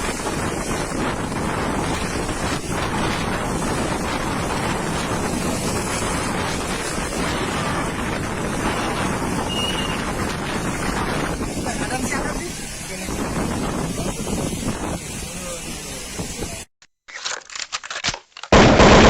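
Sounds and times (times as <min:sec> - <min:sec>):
storm wind buffeting microphone: 0:00.0 - 0:16.7.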